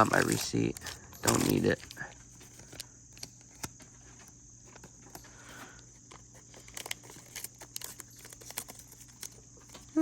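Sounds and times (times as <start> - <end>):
faint paper rustling: 0.0 - 10.0.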